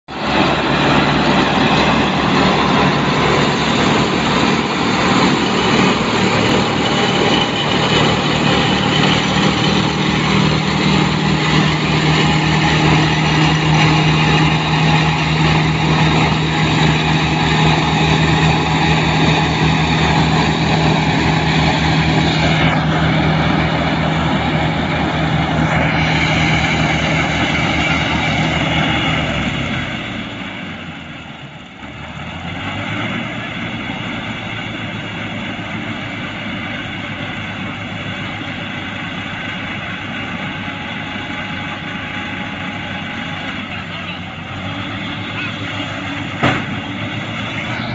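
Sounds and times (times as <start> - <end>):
tractor engine running: 0.0 - 47.9
baler machinery drone: 0.1 - 47.9.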